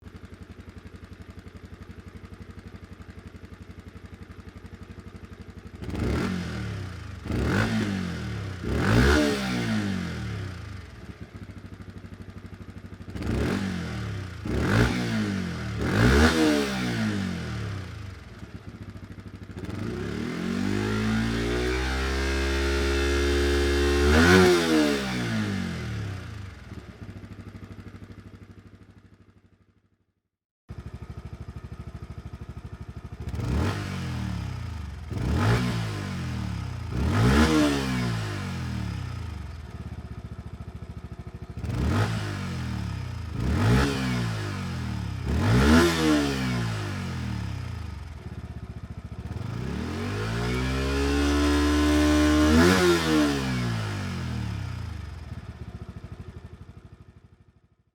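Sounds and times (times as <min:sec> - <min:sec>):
motorcycle engine idling: 0:00.0 - 0:09.0, 0:09.6 - 0:16.1, 0:17.0 - 0:21.6, 0:25.3 - 0:29.9, 0:30.7 - 0:37.4, 0:38.2 - 0:45.6, 0:46.7 - 0:50.2, 0:53.7 - 0:57.8
motorcycle engine revving: 0:00.2 - 0:29.7, 0:30.7 - 0:57.6.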